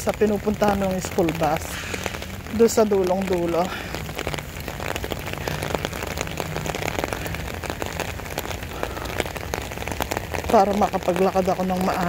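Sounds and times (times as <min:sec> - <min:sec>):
steady rain patter: 0:00.0 - 0:12.0.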